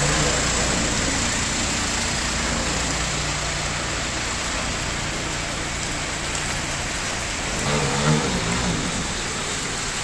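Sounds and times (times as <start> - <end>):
car engine humming: 0.0 - 10.0
heavy rain on flooded street: 0.0 - 10.0.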